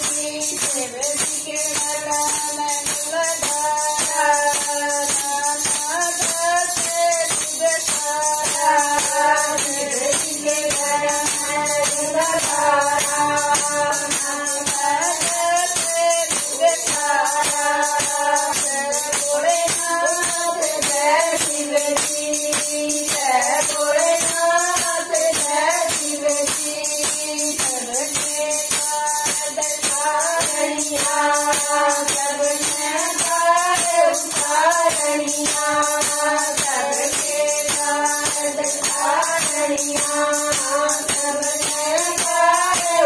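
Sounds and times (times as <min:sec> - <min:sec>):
steady hand claps: 0:00.0 - 0:43.0
women singing a devotional song: 0:00.0 - 0:43.0.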